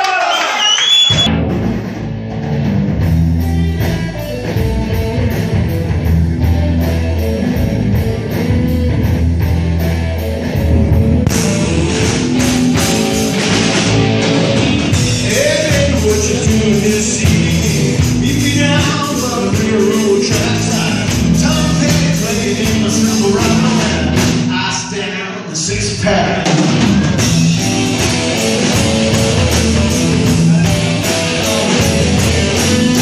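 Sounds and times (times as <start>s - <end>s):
rock music: 0.9s - 33.0s.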